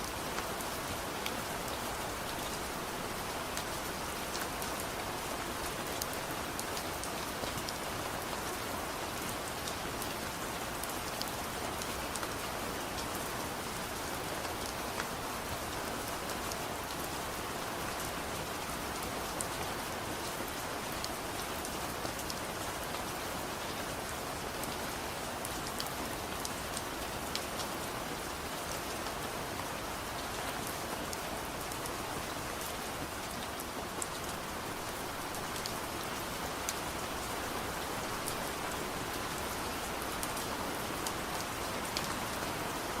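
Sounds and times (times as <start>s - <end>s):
soft rain patter: 0.0s - 43.0s.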